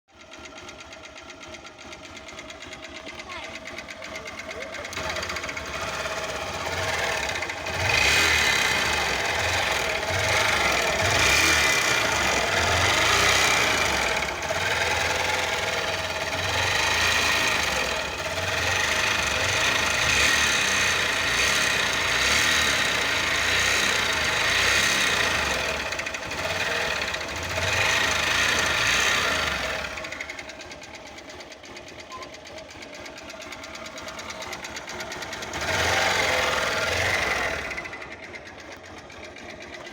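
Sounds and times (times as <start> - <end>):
motorcycle engine knocking: 0.1 - 39.9.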